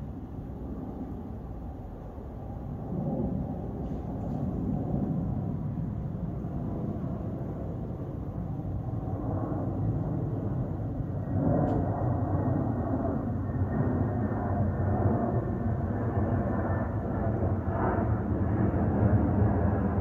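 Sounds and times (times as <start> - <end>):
jet airliner rumble: 0.0 - 20.0.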